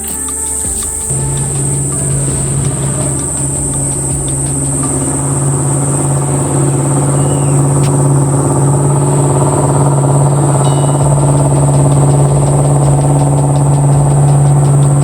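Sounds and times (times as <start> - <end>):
high insect buzz: 0.0 - 15.0
motor engine running: 0.0 - 15.0.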